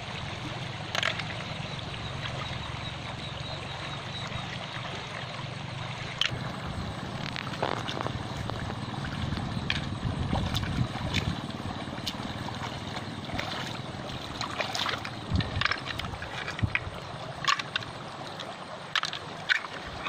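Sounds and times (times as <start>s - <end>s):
river water rushing over stones: 0.0s - 20.0s
splashes of wading: 0.0s - 20.0s.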